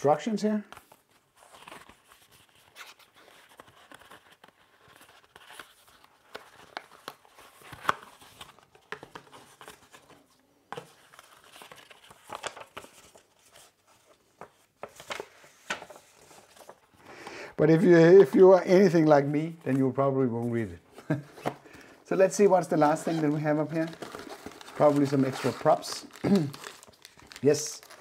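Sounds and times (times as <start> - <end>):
paper rustling and crinkling: 0.6 - 28.0.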